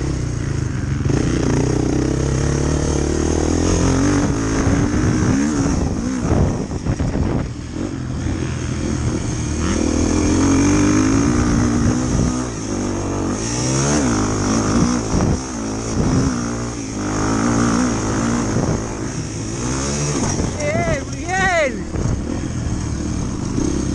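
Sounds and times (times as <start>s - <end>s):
motorcycle engine revving: 0.0s - 23.9s
wind noise: 3.0s - 23.9s.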